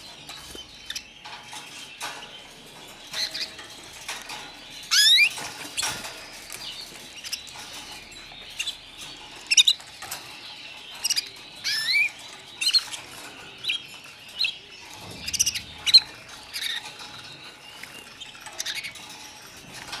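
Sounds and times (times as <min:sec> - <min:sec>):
canaries chirping: 0:00.0 - 0:20.0.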